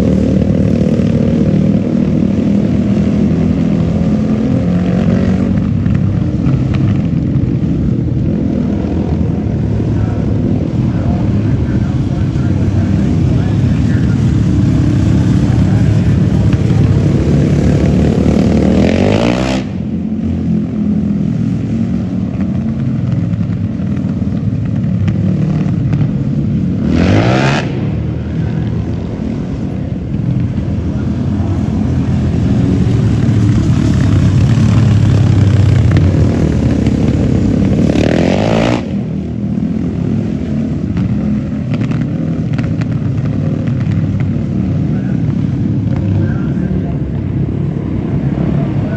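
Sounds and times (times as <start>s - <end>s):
engine revving: 8.4s - 20.0s, 20.6s - 48.9s.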